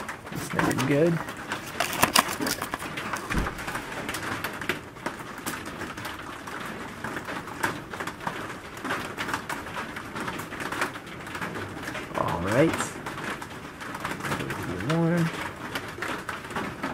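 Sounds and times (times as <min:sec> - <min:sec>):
rain pattering and dripping: 0:00.0 - 0:16.9.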